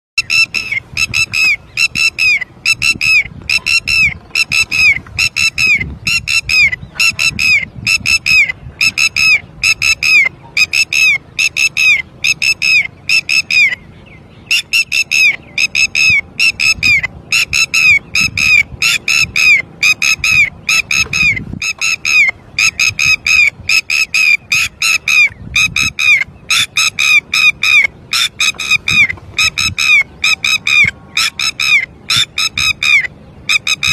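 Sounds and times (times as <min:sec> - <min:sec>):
lapwing alarm calls: 0:00.2 - 0:33.9.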